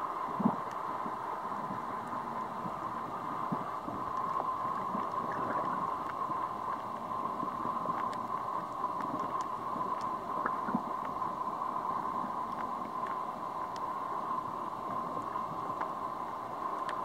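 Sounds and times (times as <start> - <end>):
constant mid-pitched hum: 0.0 - 17.0
muffled underwater wash: 0.0 - 17.0
faint clicks: 0.3 - 2.8, 3.4 - 17.0.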